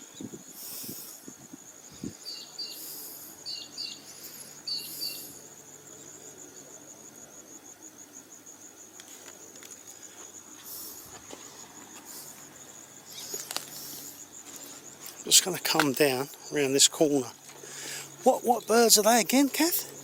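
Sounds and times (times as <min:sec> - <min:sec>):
insect trilling: 0:00.0 - 0:20.0.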